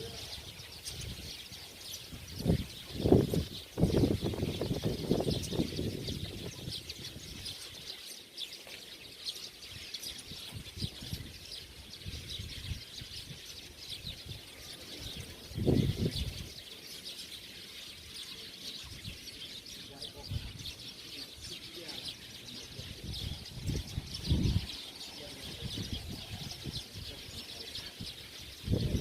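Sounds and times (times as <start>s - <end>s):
flock of birds chattering: 0.0s - 29.0s.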